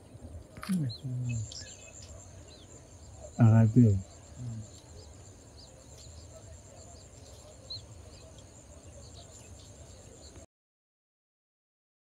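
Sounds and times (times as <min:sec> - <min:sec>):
bird chirps: 0:00.0 - 0:10.5
low background noise: 0:00.0 - 0:10.5
high insect drone: 0:00.6 - 0:10.4.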